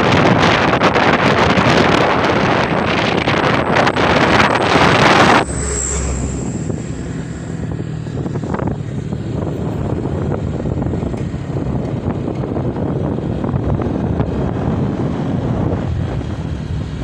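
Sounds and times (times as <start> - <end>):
motorbike engine running: 0.0 - 17.0
rush of wind: 0.0 - 17.0
wind buffeting microphone: 0.0 - 17.0.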